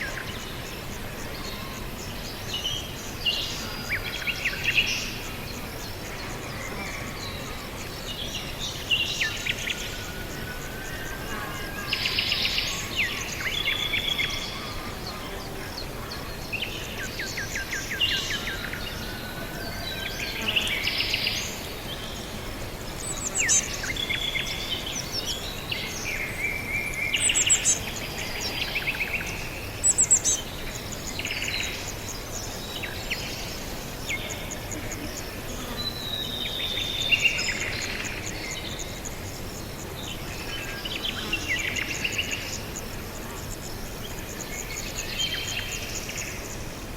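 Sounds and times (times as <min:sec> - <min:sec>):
steady background hiss: 0:00.0 - 0:46.9
wild birds chirping and singing: 0:00.0 - 0:46.9.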